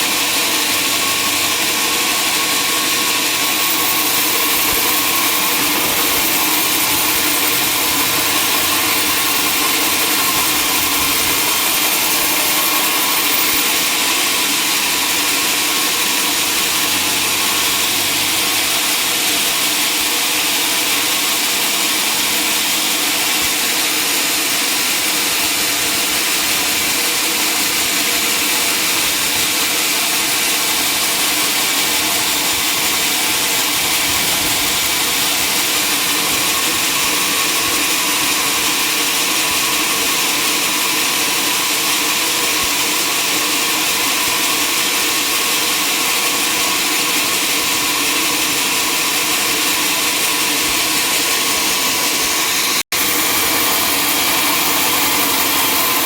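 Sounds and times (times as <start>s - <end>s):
sawmill saw and motor running: 0.0s - 56.0s.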